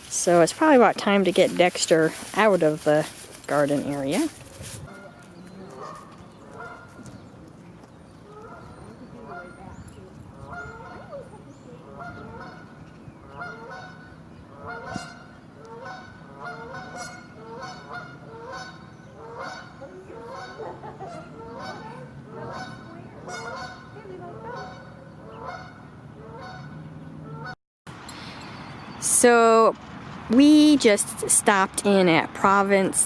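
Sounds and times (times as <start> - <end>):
geese honking: 0.0 - 7.2, 8.2 - 27.6.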